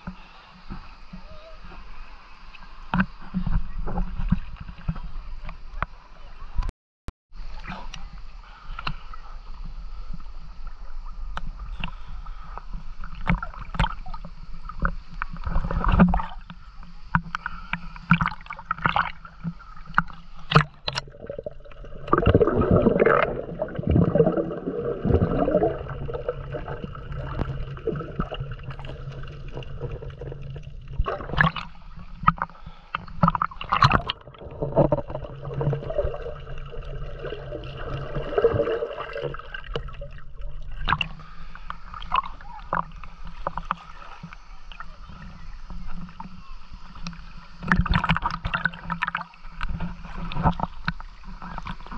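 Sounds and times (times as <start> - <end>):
muffled water sloshing and gurgling: 0.0 - 6.6, 7.4 - 51.9.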